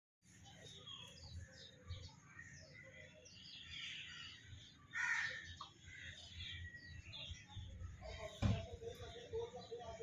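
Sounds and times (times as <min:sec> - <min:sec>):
birds chirping: 0:00.2 - 0:10.0.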